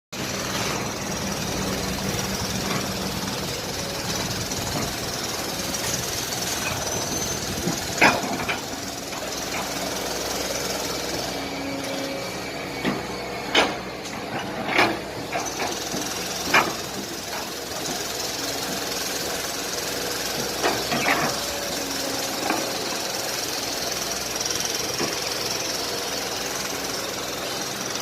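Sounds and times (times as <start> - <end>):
excavator running: 0.2 - 28.0.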